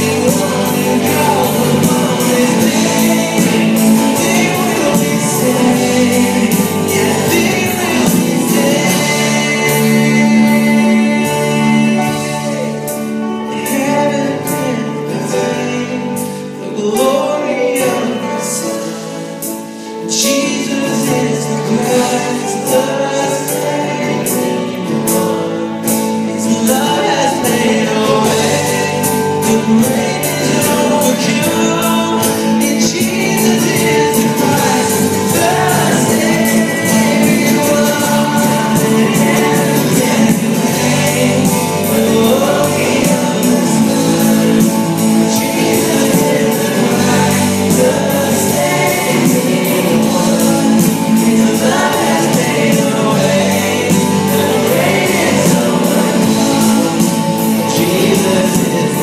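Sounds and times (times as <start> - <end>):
drums beating: 0.0 - 14.0, 20.5 - 59.0
backing singers: 0.0 - 59.0
man singing lead: 0.0 - 59.0
worship band playing: 0.0 - 59.0.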